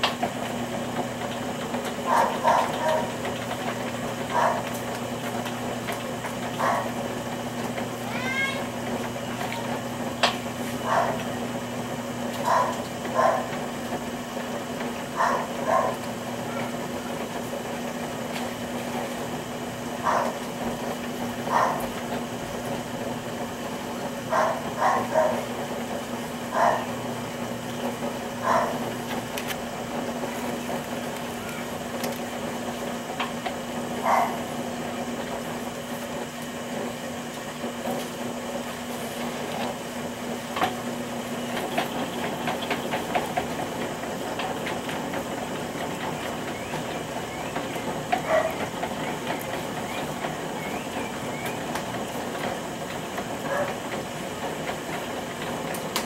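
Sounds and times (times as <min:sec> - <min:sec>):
potter's wheel motor hum: 0:00.0 - 0:56.0.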